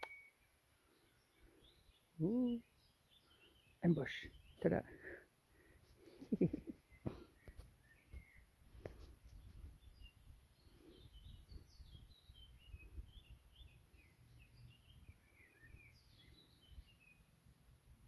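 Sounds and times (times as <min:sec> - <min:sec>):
birds chirping and trilling: 0:00.3 - 0:17.4.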